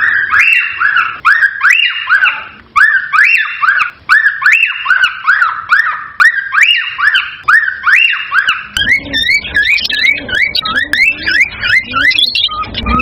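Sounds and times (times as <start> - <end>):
cockatiel whistling: 0.0 - 13.0.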